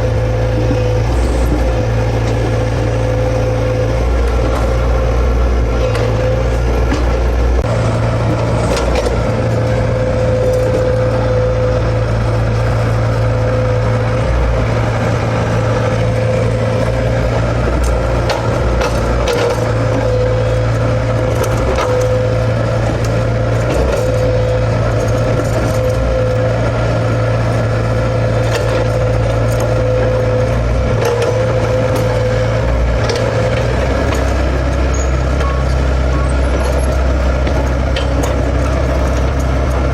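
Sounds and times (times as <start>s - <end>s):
constant whine: 0.0s - 39.9s
excavator diesel engine running: 0.0s - 39.9s.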